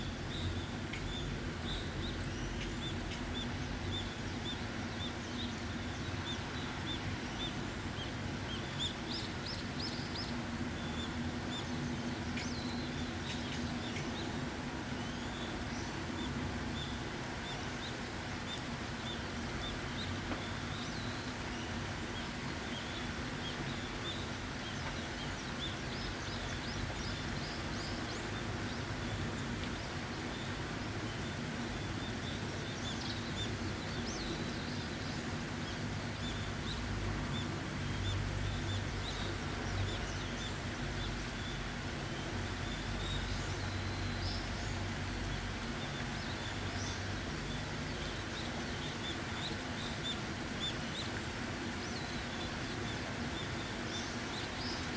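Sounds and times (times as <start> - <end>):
steady rainfall: 0.0 - 54.9
small birds chirping: 0.1 - 54.9.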